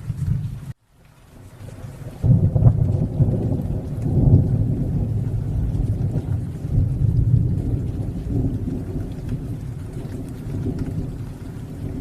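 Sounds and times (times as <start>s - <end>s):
rain drops ticking: 0.0s - 12.0s
rain falling: 0.0s - 12.0s
low rumble of thunder: 1.4s - 12.0s.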